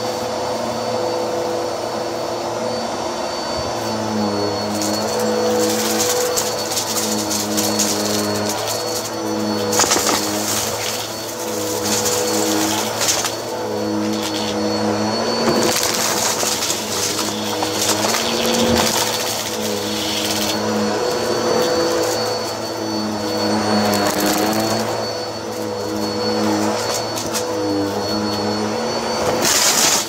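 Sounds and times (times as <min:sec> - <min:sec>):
vacuum cleaner running on carpet: 0:00.0 - 0:30.0.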